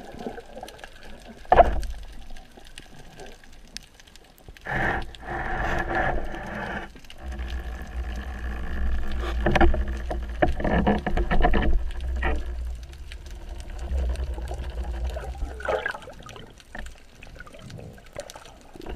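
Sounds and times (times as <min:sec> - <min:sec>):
muffled underwater water swishing: 0:00.0 - 0:18.9.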